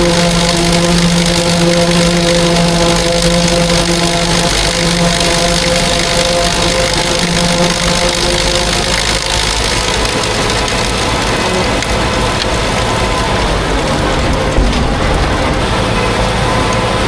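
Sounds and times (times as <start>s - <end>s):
farm machinery engine droning: 0.0s - 17.0s.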